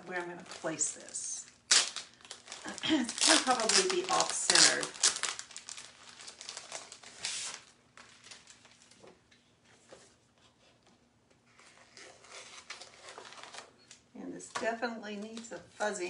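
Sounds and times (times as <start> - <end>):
plastic sheet rustling and crinkling: 0.0 - 10.3, 11.4 - 14.0.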